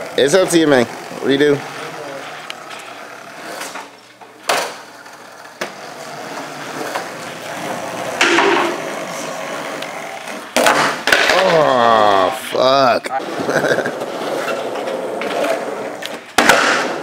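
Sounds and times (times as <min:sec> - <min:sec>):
skateboard wheels rolling: 0:00.0 - 0:12.2, 0:13.2 - 0:17.0.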